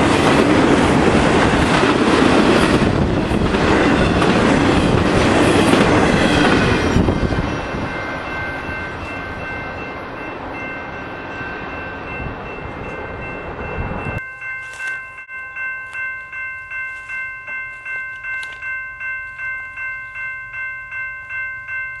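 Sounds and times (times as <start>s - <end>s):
crossing bell ringing: 0.0s - 22.0s
freight train noise: 0.0s - 22.0s.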